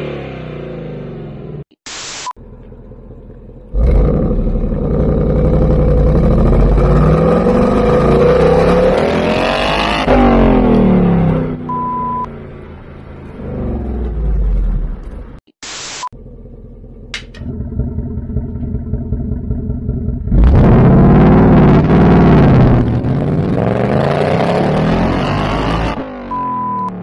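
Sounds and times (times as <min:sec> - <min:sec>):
car engine accelerating: 0:02.4 - 0:15.4, 0:16.2 - 0:27.0.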